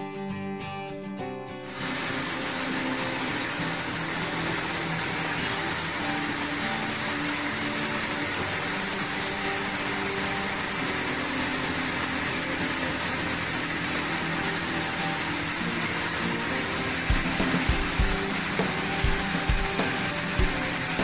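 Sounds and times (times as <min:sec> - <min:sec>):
high-pressure water jets hissing: 0:01.7 - 0:21.0.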